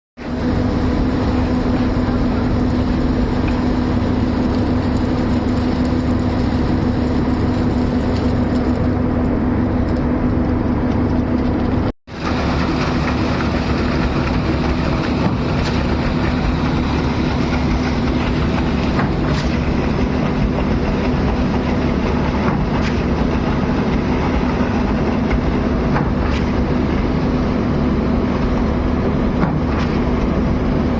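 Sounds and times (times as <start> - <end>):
large machinery engine running: 0.3 - 30.9.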